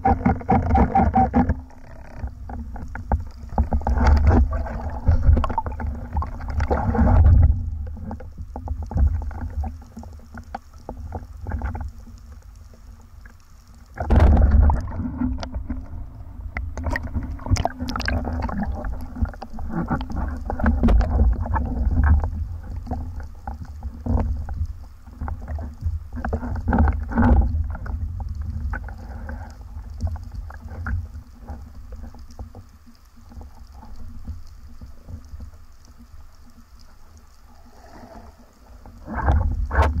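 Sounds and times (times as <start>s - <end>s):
knocks and clicks underwater: 0.0s - 40.0s
underwater rumble of moving water: 0.0s - 40.0s.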